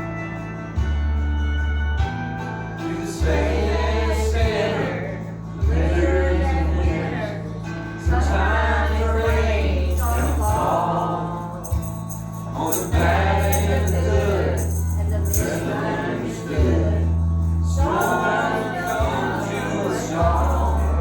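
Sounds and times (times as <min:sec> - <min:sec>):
deep bass notes: 0:00.0 - 0:21.0
people singing: 0:02.8 - 0:21.0.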